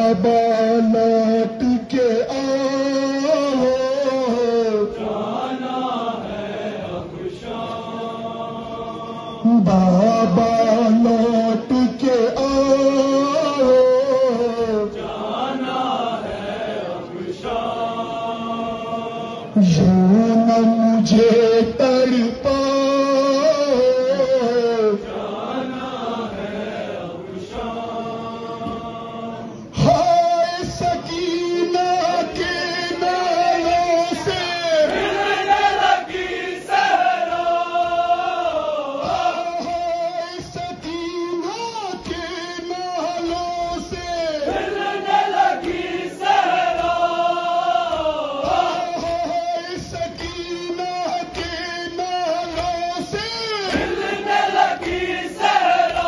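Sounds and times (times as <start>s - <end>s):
person chanting a lament: 0.0s - 6.4s, 7.4s - 26.6s, 27.5s - 56.0s.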